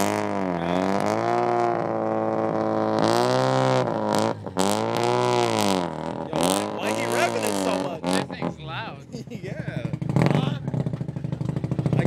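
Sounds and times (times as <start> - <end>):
car engine revving loudly: 0.0 - 8.9, 9.8 - 12.0.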